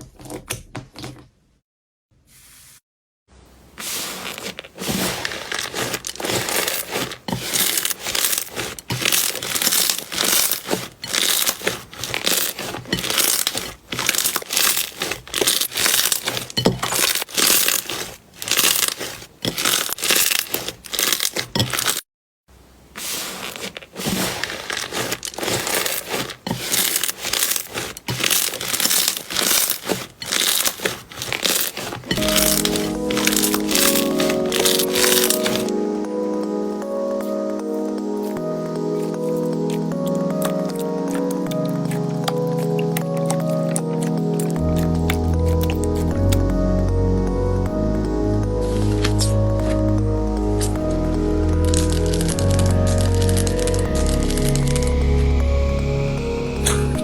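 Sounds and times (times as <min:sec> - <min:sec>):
slime crackling and popping: 0:04.2 - 0:22.0, 0:23.2 - 0:55.4.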